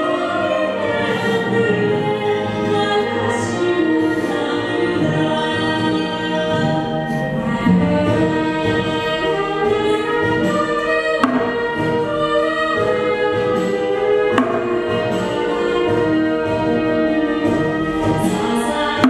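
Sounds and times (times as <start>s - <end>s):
women singing with instruments: 0.0s - 19.0s.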